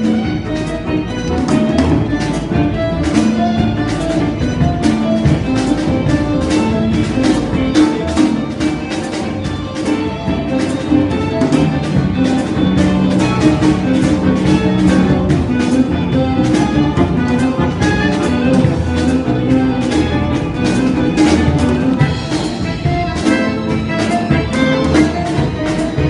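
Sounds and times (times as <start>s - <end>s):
instrumental music with steady beat: 0.0s - 26.0s.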